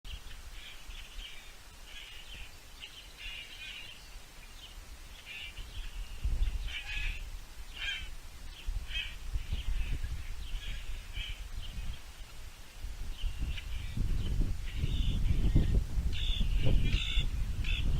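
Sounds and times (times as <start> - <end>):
birds chirping and calling: 0.1 - 12.4, 13.1 - 17.9.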